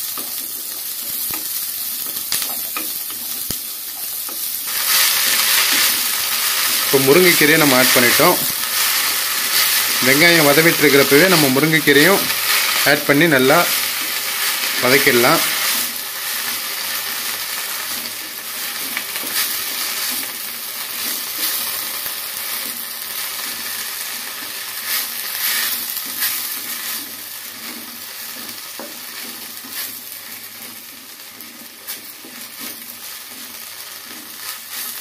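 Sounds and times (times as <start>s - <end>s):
leaves and onions sizzling in oil: 0.0s - 35.0s.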